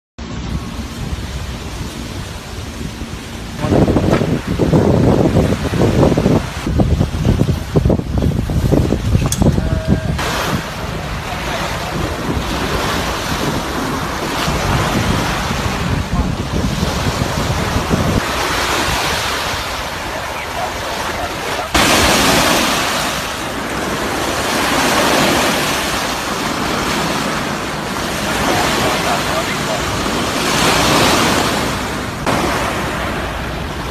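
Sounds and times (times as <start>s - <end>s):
small waves breaking on shore: 0.2s - 33.9s
wind rumbling on microphone: 0.2s - 33.9s.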